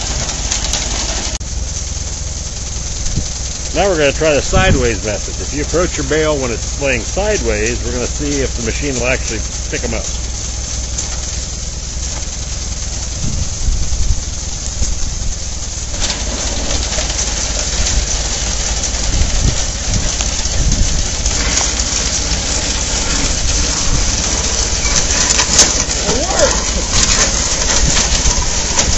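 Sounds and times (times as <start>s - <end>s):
hissing mechanical noise: 0.0s - 28.9s
tractor engine running: 0.0s - 28.9s.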